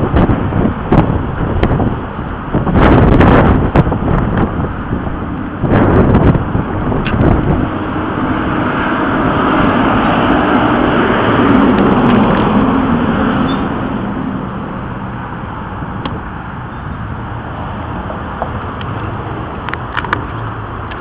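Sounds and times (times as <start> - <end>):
vehicle passing: 0.0 - 21.0.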